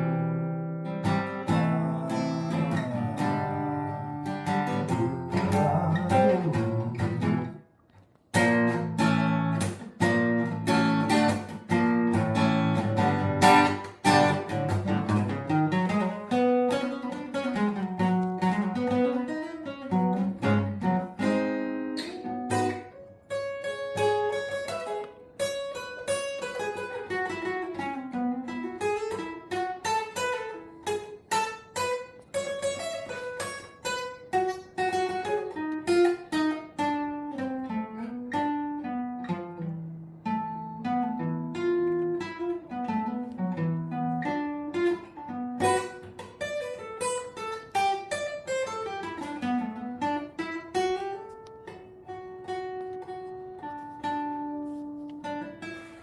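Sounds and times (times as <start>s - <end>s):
acoustic guitar strummed and picked: 0.0s - 56.0s.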